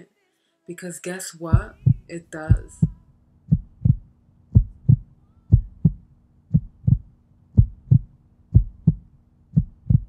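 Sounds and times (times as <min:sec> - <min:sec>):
heartbeat double thump: 0:01.5 - 0:10.0.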